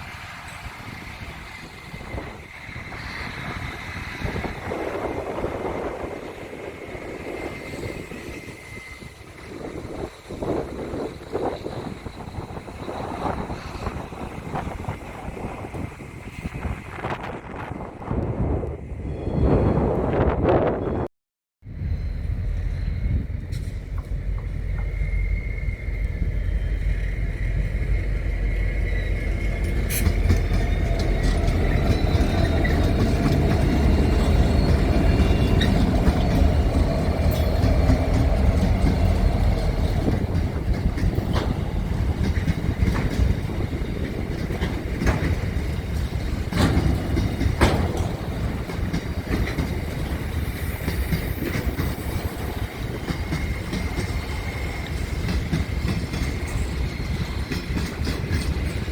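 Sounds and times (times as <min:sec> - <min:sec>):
train rumbling by: 0:00.0 - 0:58.9.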